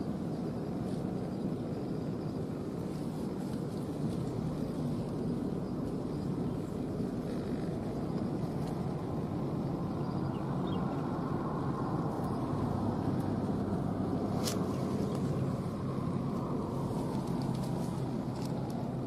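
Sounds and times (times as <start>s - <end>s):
low rumbling noise: 0.0s - 19.0s.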